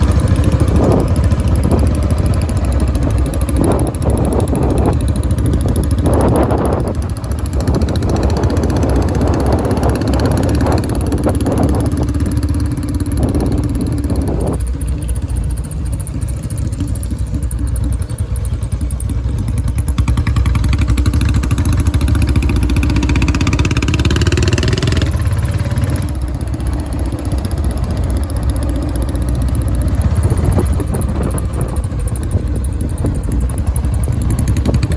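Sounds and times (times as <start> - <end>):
motorcycle engine deep thumping exhaust: 0.0 - 34.9.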